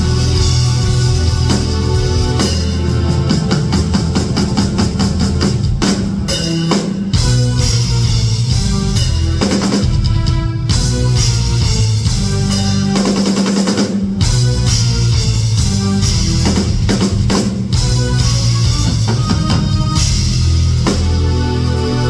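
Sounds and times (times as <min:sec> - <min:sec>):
drum kit drumming: 0:00.0 - 0:22.0.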